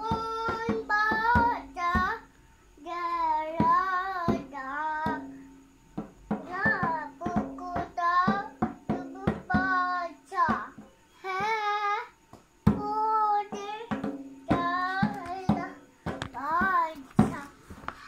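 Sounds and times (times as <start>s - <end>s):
toddler singing: 0.0s - 5.4s, 6.3s - 17.6s.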